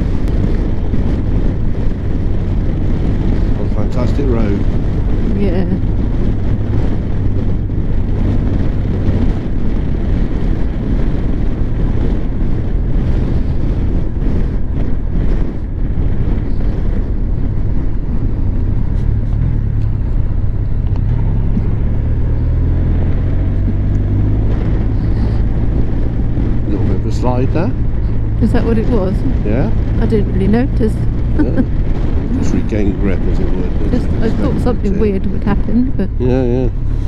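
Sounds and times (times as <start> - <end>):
motorcycle engine running: 0.0 - 37.0
wind noise on microphone: 0.0 - 37.0.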